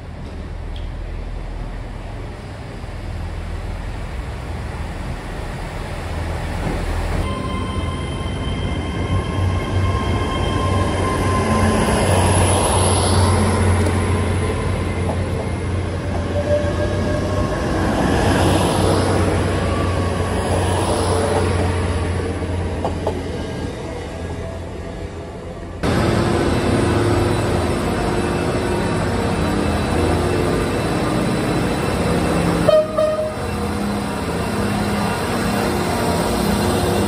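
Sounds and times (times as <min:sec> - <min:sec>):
diesel train drawing in: 0:00.0 - 0:37.0
train whining tones: 0:06.0 - 0:24.7, 0:25.8 - 0:37.0.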